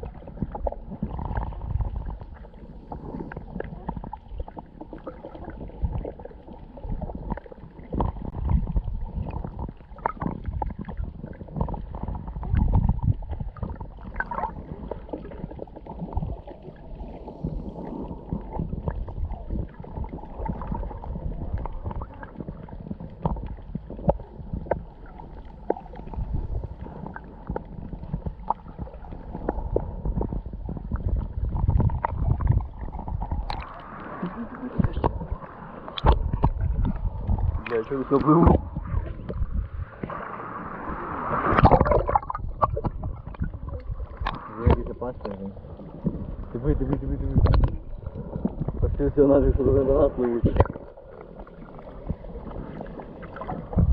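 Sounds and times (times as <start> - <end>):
underwater seawater rumble: 0.0 - 53.9.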